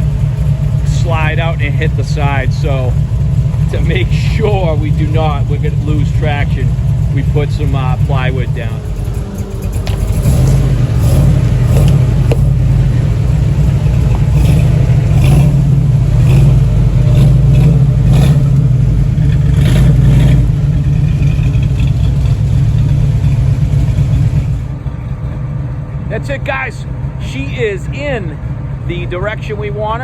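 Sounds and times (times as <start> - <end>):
loud car engine running: 0.0 - 30.0.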